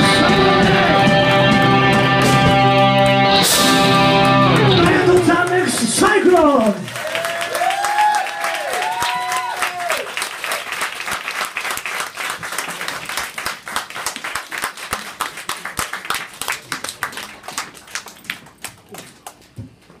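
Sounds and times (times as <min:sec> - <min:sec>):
audience applauding: 0:00.0 - 0:19.5.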